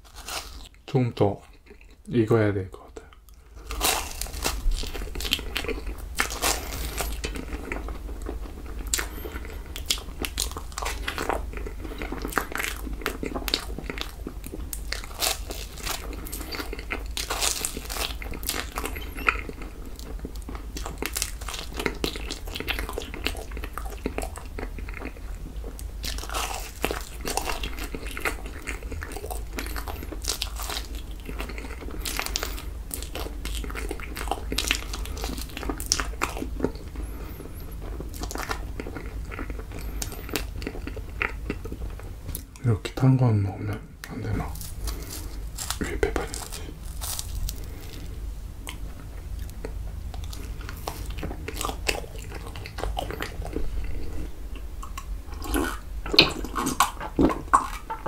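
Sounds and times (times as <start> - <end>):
person chewing marshmallows: 0.0 - 58.0.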